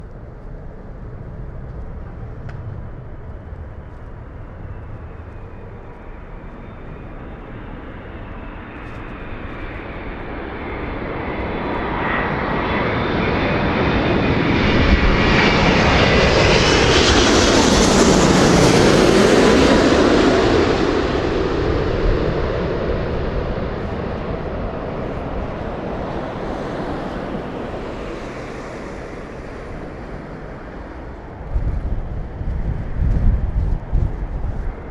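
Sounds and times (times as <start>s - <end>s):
jet airliner whining: 0.0s - 34.9s.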